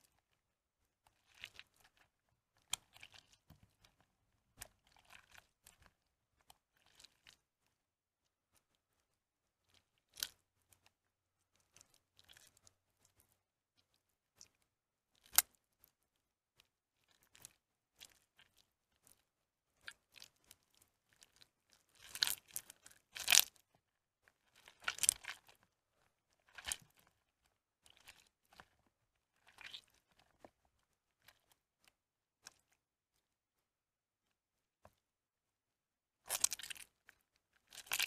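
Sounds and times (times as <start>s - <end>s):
wet soap squishing and crackling: 0.0s - 38.0s.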